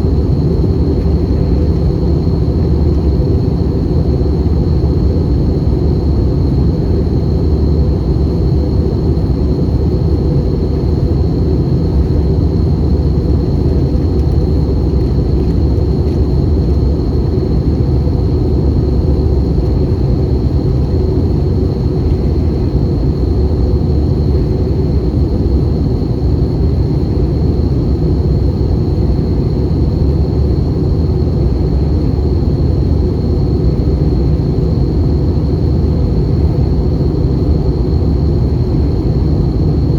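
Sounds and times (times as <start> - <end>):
aircraft engine and airflow drone: 0.0 - 39.9.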